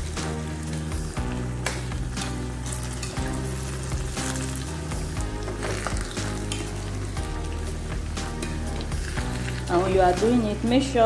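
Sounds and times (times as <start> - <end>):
background music: 0.0 - 11.0
seeds sizzling in hot oil: 0.0 - 11.0.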